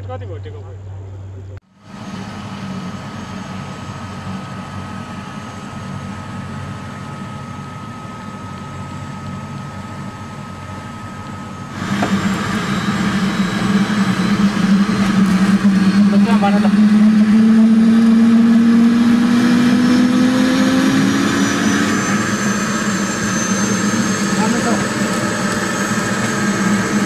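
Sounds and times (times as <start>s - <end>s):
helicopter engine and rotor: 1.7s - 27.0s.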